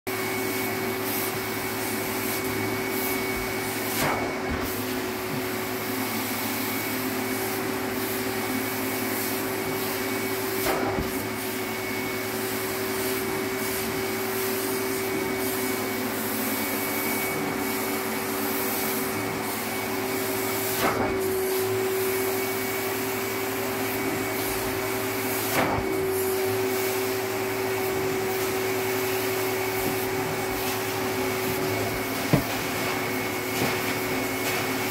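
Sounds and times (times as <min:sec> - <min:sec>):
carpet extraction vacuum whining: 0:00.1 - 0:34.9.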